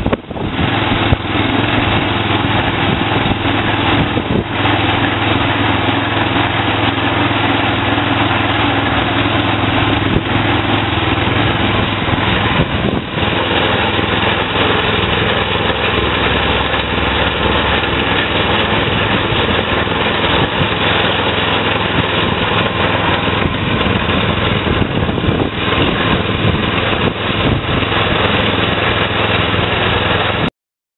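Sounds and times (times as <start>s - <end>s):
petrol engine running under load: 0.0s - 30.5s.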